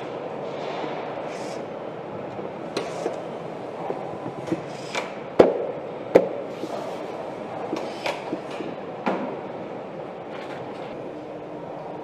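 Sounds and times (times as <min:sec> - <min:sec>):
factory background din: 0:00.0 - 0:12.0.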